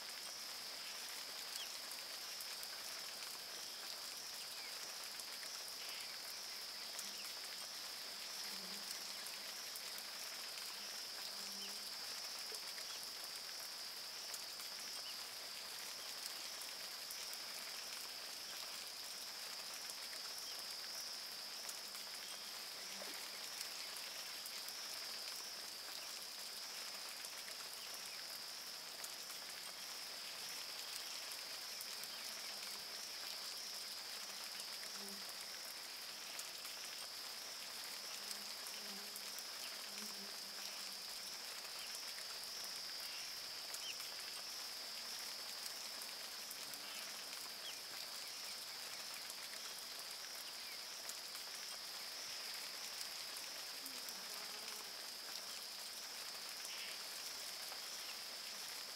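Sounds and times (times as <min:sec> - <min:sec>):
faint background hiss: 0:00.0 - 0:58.9
high-pitched insect chorus: 0:00.0 - 0:58.9.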